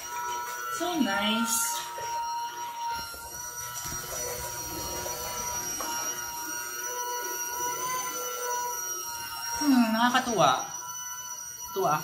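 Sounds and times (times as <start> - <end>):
washing machine motor whine: 0.0 - 12.0.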